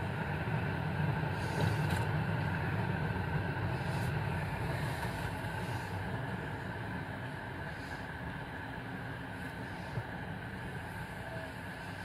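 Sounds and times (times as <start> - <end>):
low hum: 0.0 - 12.0
road and tyre noise: 0.0 - 12.0.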